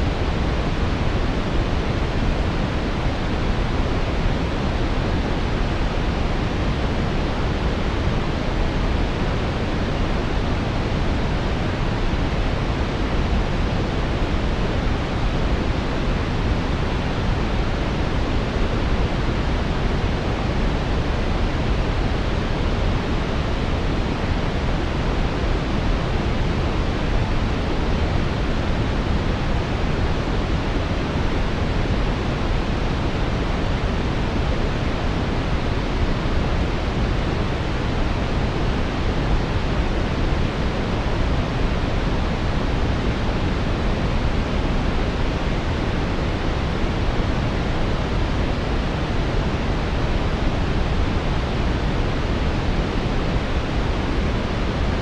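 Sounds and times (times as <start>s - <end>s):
deep rushing brown noise: 0.0s - 55.0s.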